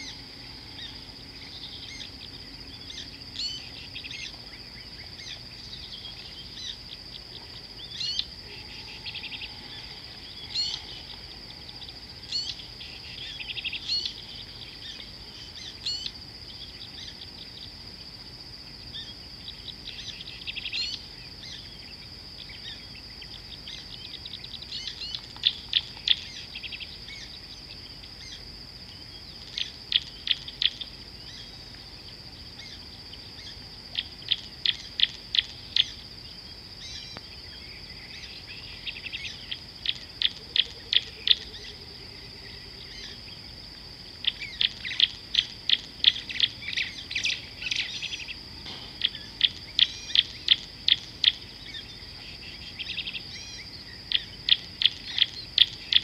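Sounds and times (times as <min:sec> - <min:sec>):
birds chirping and trilling: 0:00.0 - 0:56.0
high-pitched insect drone: 0:00.0 - 0:56.0.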